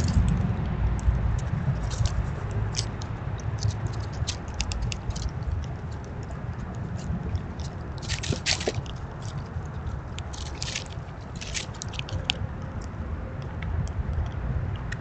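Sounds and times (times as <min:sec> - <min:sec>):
low rumble: 0:00.0 - 0:15.0
small clicks and crackles: 0:00.0 - 0:15.0
squirrels crunching food: 0:00.0 - 0:15.0.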